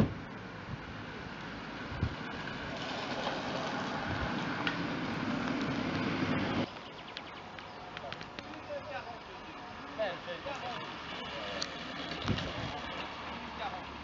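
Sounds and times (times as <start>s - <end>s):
car passing close: 0.0s - 6.8s, 8.8s - 14.0s.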